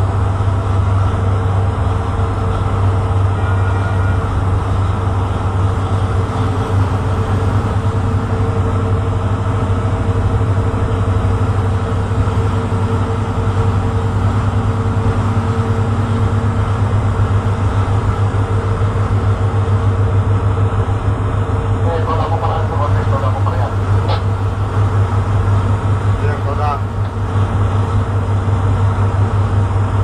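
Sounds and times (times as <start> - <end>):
boat engine deep throb: 0.0 - 30.0.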